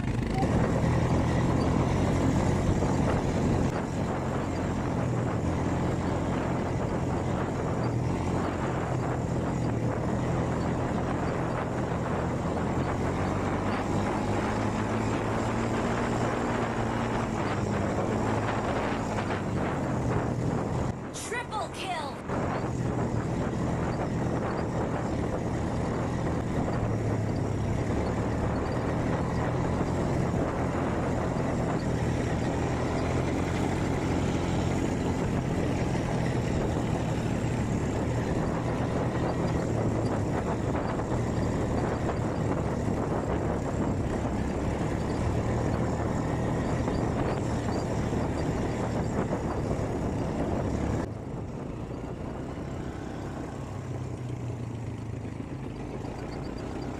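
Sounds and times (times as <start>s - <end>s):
constant rushing noise: 0.0s - 56.9s
quad bike engine running: 0.0s - 56.9s.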